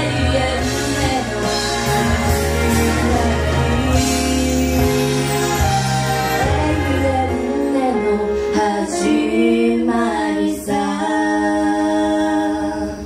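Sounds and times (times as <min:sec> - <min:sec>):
two women singing a duet: 0:00.0 - 0:13.0.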